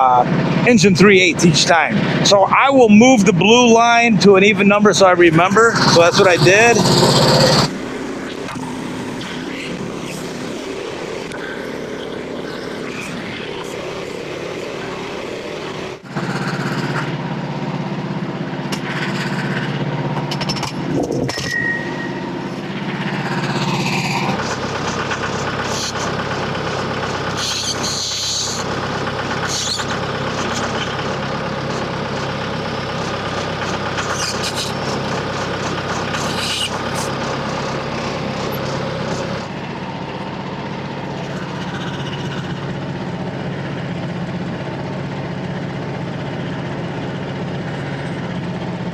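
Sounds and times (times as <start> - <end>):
sawmill gas engine running: 0.0 - 48.9.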